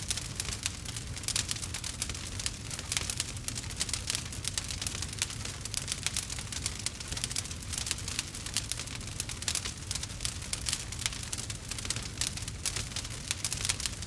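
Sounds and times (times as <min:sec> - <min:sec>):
low steady rumble of fire: 0:00.0 - 0:14.0
wood fire crackling: 0:00.0 - 0:14.0.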